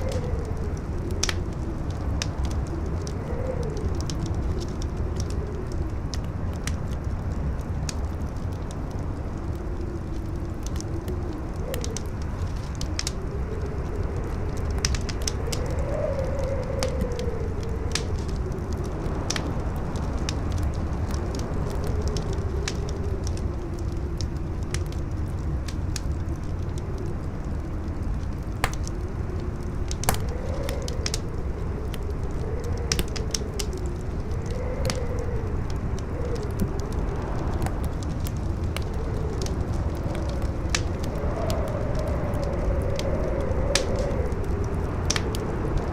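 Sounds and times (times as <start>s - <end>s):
campfire crackling: 0.0s - 45.9s
deep wind rumble: 0.0s - 45.9s
howling whistling wind: 0.0s - 45.9s.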